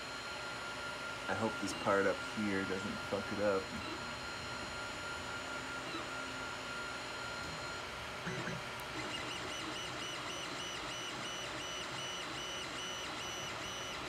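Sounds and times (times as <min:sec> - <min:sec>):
blower fan whirring: 0:00.0 - 0:14.0
stepper motors whining: 0:00.7 - 0:14.0.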